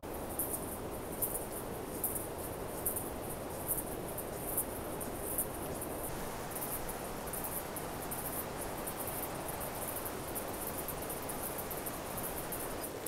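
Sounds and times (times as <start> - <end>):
steady background hiss: 0.0 - 13.0
insects chirping: 0.2 - 13.0.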